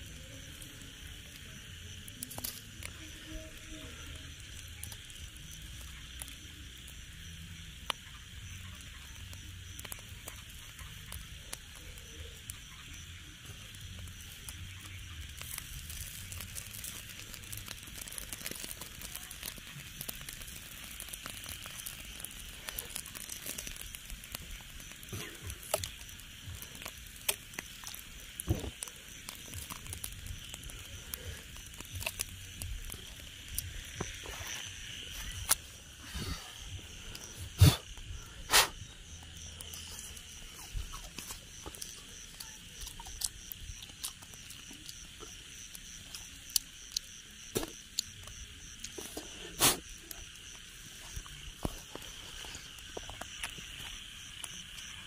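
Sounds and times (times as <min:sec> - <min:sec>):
fire embers crackling: 0:00.0 - 0:55.0
night insects chirping: 0:00.0 - 0:55.0.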